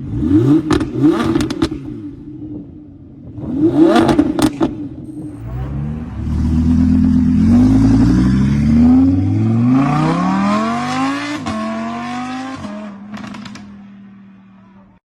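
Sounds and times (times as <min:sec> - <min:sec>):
car engine accelerating hard: 0:00.0 - 0:14.8.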